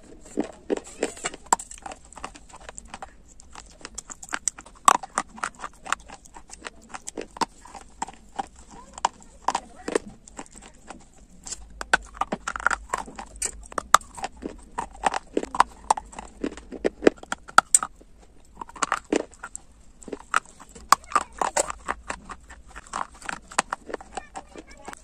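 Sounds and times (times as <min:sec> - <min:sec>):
chewing crunchy clay: 0:00.0 - 0:25.0.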